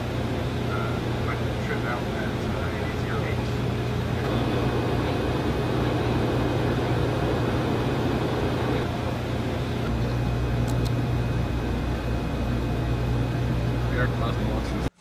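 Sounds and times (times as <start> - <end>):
low electrical hum: 0.0 - 15.0
ventilation air rush: 0.0 - 15.0.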